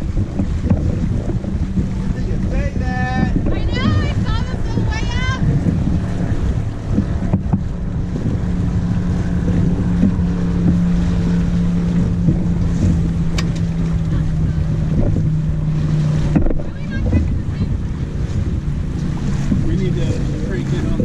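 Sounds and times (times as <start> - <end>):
boat motor hum: 0.0 - 21.0
wind buffeting microphone: 0.0 - 21.0.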